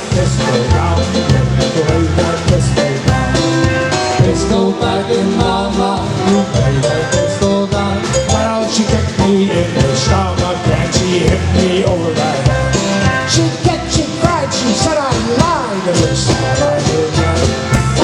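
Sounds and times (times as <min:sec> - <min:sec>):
bouncing bass line: 0:00.0 - 0:18.0
live polka band playing: 0:00.0 - 0:18.0
steady drum beat: 0:00.0 - 0:18.0.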